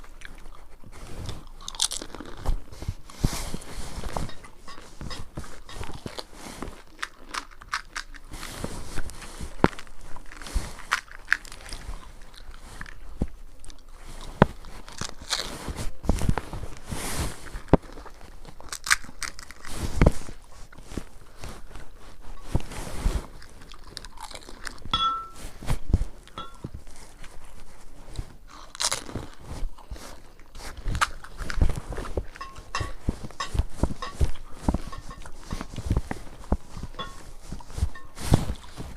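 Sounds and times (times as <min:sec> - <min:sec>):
crunching crisp shells: 0:00.0 - 0:27.4, 0:28.3 - 0:38.9
person chewing: 0:00.0 - 0:38.9.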